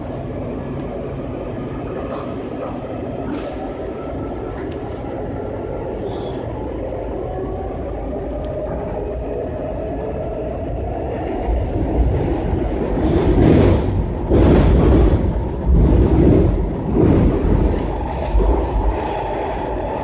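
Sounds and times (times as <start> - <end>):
train rumble inside car: 0.0 - 20.0.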